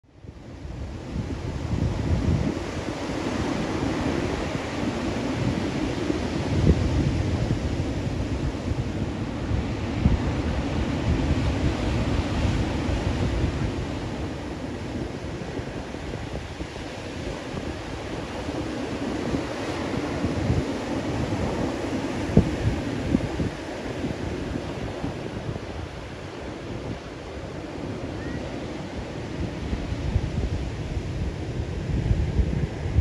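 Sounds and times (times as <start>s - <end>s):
wind buffeting microphone: 0.1s - 33.0s
ocean surf breaking: 0.6s - 33.0s.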